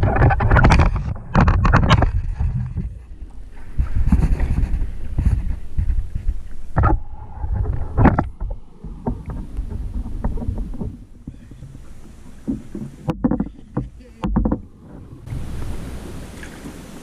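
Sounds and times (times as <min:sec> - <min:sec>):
knocks and thumps on a kayak: 0:00.0 - 0:15.8
wind and water rumble on microphone: 0:00.0 - 0:17.0.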